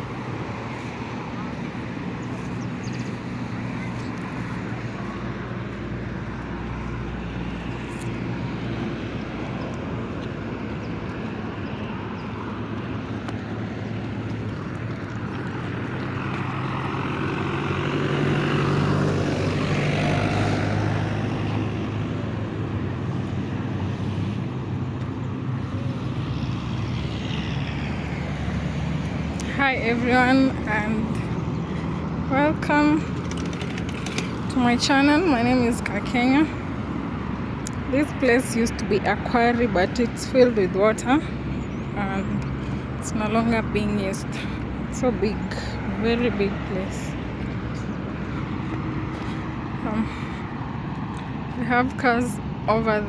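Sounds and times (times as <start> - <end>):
vehicle engine drone passing: 0.0 - 53.0.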